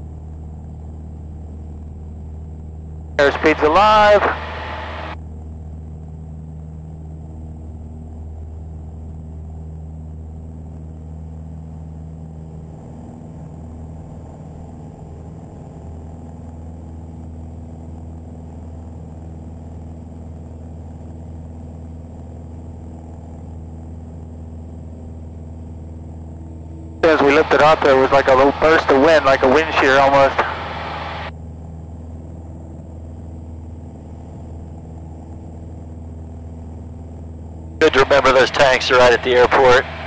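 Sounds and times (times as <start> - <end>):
airplane engine and propeller drone: 0.0 - 40.0.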